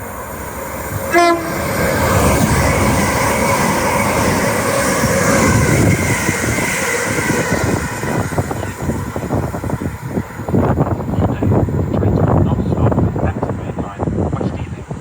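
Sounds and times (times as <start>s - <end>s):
low rumbling gusts: 0.0s - 15.0s
train passing: 0.0s - 15.0s.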